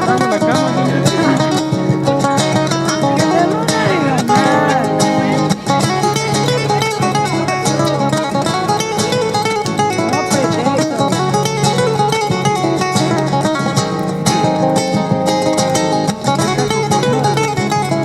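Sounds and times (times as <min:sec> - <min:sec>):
acoustic guitar flamenco style: 0:00.0 - 0:18.0.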